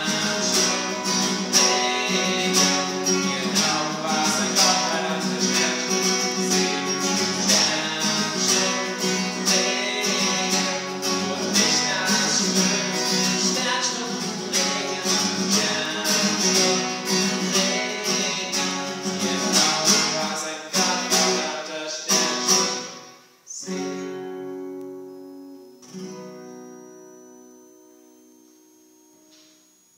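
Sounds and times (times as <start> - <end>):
acoustic guitar strumming: 0.0 - 29.8.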